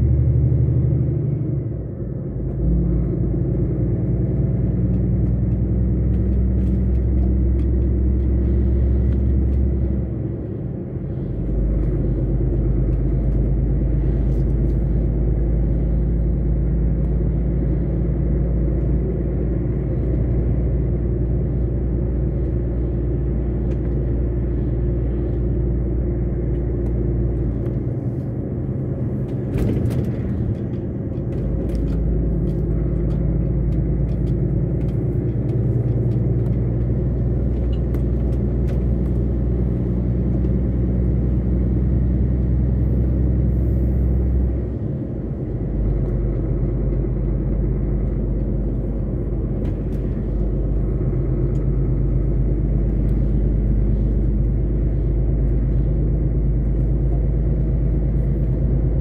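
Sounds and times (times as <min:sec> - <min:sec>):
lorry engine droning: 0:00.0 - 0:59.0.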